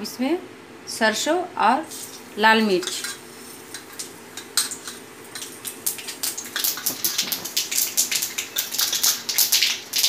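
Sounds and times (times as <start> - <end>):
seeds sizzling and popping in oil: 1.9 - 10.0.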